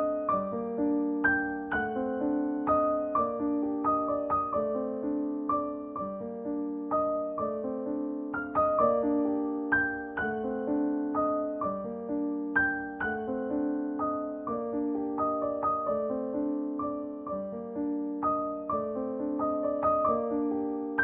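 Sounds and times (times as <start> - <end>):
slow piano notes: 0.0 - 21.0.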